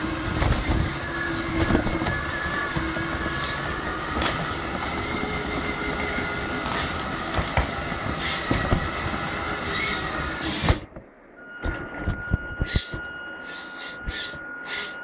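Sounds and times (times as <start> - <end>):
wheel noise: 0.0 - 14.5
electric motor and gears whine: 0.0 - 15.0.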